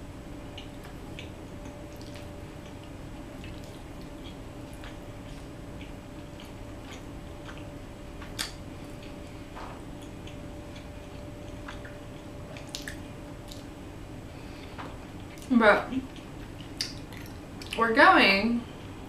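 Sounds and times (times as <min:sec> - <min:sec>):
soft chewing: 0:00.5 - 0:17.8.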